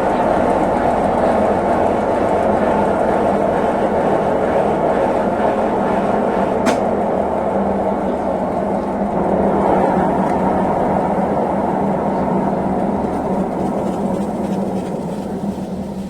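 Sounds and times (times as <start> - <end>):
washing machine rumbling: 0.0 - 16.0.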